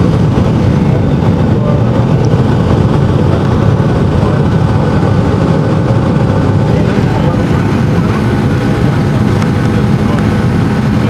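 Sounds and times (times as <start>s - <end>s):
airliner engine and airframe noise: 0.0s - 11.0s.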